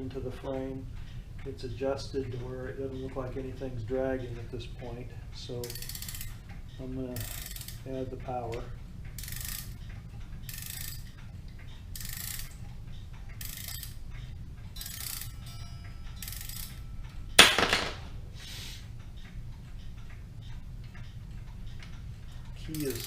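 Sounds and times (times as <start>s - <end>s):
clock winding ratchet clicks: 0.0s - 17.4s, 18.9s - 23.0s.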